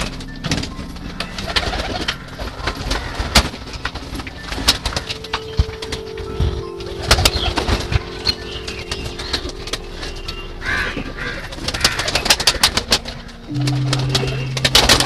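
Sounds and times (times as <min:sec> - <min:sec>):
pigeons cooing: 0:00.2 - 0:15.0.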